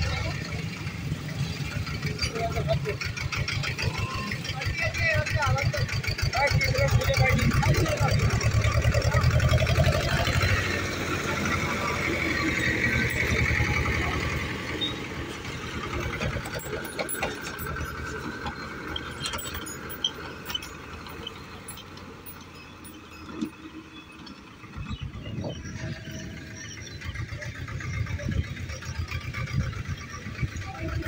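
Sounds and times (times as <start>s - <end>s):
tractor diesel engine pulsing: 0.0s - 31.0s.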